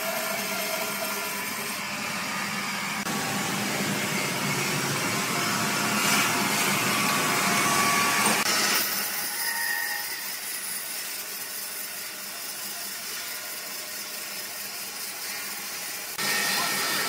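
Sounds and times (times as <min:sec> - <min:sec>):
band sawmill cutting log: 0:00.0 - 0:17.0.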